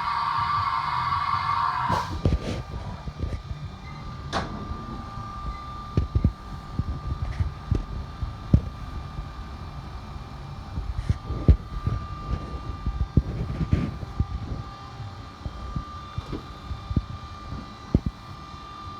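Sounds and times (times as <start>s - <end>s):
machine high whine: 0.0s - 18.9s.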